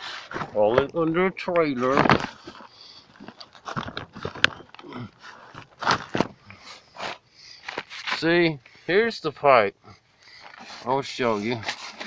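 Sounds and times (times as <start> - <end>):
crawling over plastic tarps: 0.0 - 9.1, 10.4 - 12.0.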